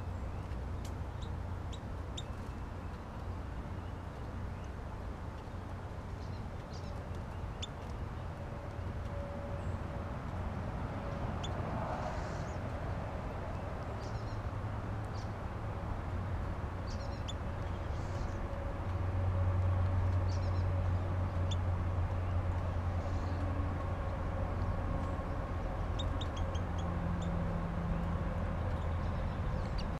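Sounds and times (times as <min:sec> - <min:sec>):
songbirds chirping: 0:00.0 - 0:29.9
steady low rumble: 0:00.0 - 0:29.9.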